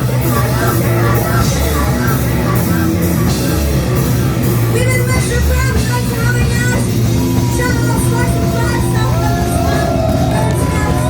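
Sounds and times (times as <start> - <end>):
punk rock band playing: 0.0 - 11.0.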